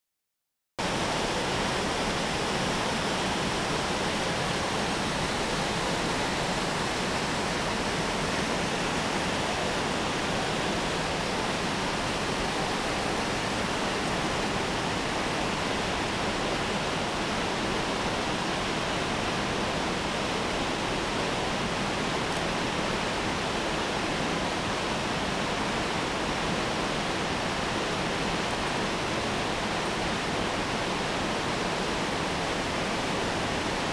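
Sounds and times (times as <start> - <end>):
waterfall rushing: 0.8 - 33.9.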